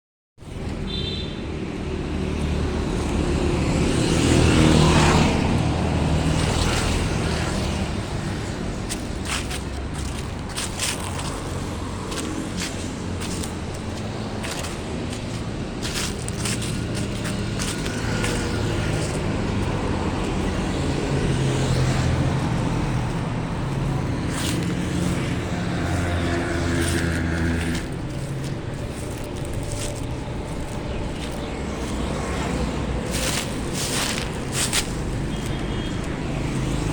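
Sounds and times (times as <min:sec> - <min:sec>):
dry leaves crackling: 0:00.4 - 0:36.9
vehicle engine humming: 0:00.4 - 0:36.9.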